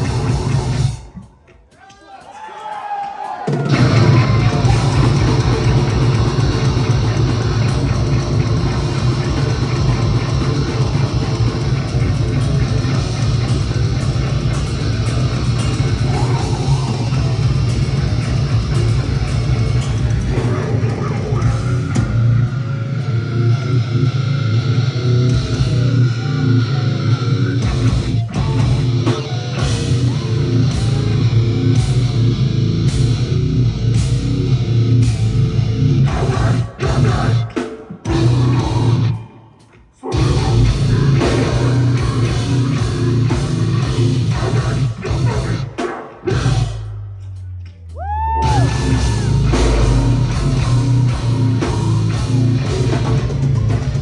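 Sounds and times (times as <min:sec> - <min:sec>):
heavy metal music: 0:00.0 - 0:01.6, 0:03.4 - 0:54.0.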